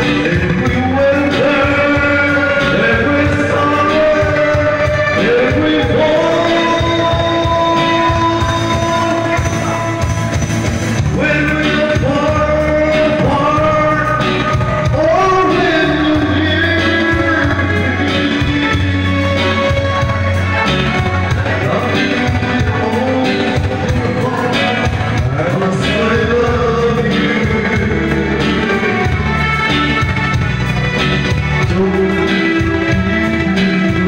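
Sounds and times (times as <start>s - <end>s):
karaoke backing track: 0.0s - 34.0s
person singing into a microphone: 0.0s - 34.0s
steady bass line: 0.0s - 34.0s.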